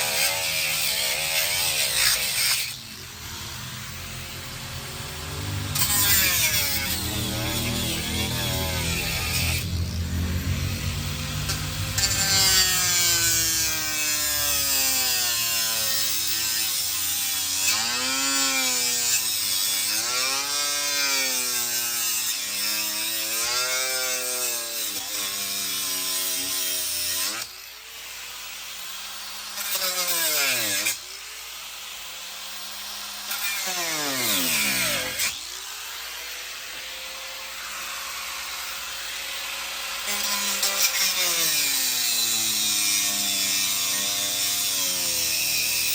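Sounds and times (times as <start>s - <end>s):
power tool motor running: 0.0s - 45.9s.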